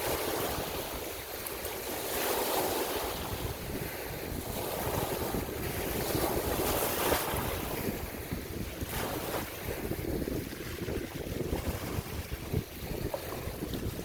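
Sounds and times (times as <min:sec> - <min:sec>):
sea waves washing: 0:00.0 - 0:14.0
wind on microphone: 0:00.0 - 0:14.0.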